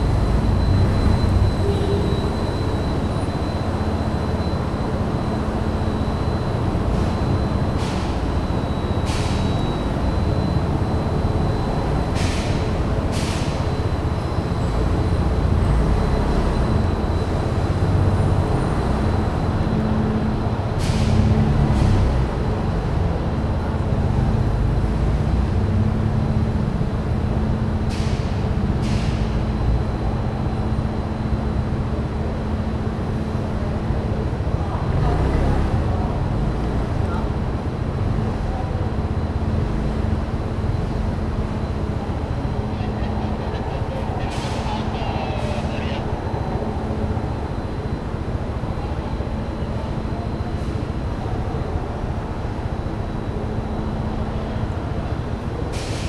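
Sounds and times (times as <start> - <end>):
constant hum: 0.0 - 56.0
vehicles rumbling: 0.0 - 56.0.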